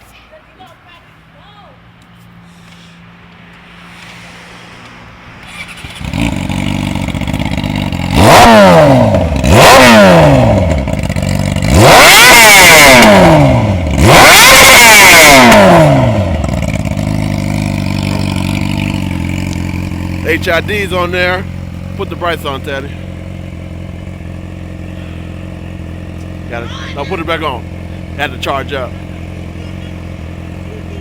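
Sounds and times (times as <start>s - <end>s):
motorcycle engine starting and revving: 3.6s - 31.0s.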